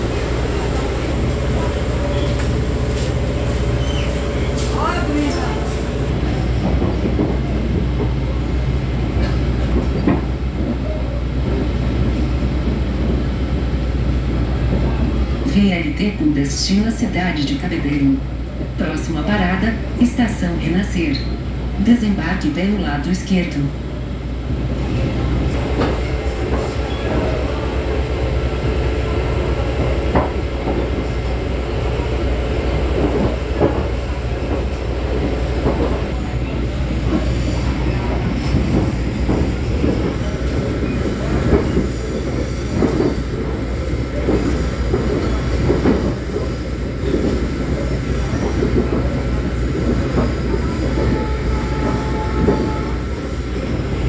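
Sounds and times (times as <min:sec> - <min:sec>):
rail clacks: 0:00.0 - 0:23.7, 0:24.4 - 0:54.0
wheels rumbling on track: 0:00.0 - 0:54.0.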